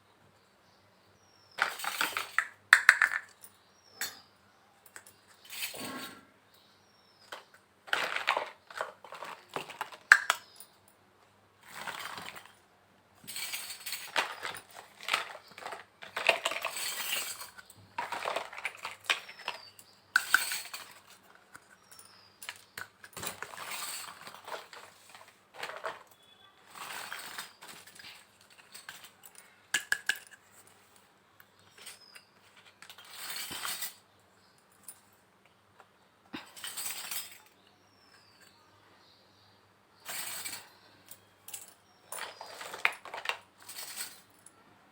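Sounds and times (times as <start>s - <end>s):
toy kitchen pieces clinking: 1.6s - 4.2s, 4.9s - 6.2s, 7.2s - 10.8s, 11.6s - 12.6s, 13.2s - 30.6s, 31.6s - 35.1s, 36.4s - 38.6s, 40.0s - 44.5s.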